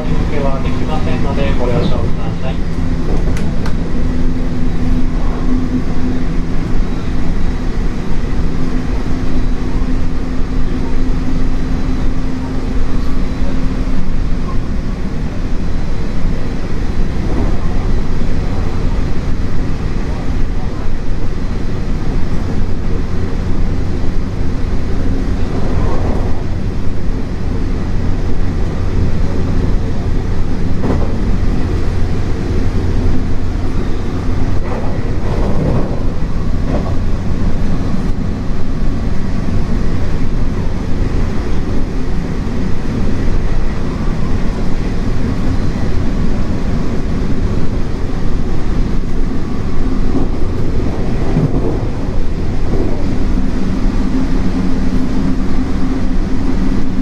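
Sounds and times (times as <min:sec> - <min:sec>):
low hum: 0:00.0 - 0:57.0
train wheels rumbling on track: 0:00.0 - 0:57.0.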